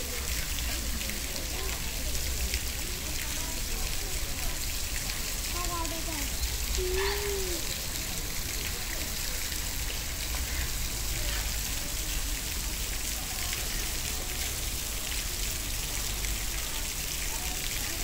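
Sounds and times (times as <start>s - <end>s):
faint distant voices: 0.0s - 18.0s
hiss of running water: 0.0s - 18.0s.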